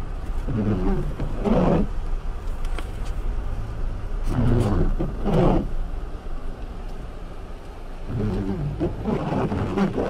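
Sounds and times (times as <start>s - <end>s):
engine hum: 0.0s - 10.0s
windshield wipers sweeping: 0.0s - 10.0s.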